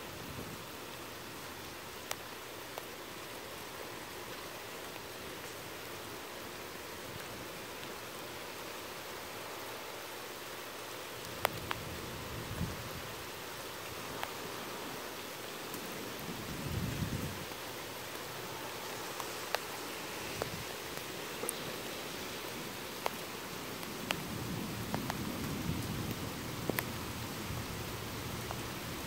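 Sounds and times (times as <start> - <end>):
rain hissing: 0.0 - 29.0.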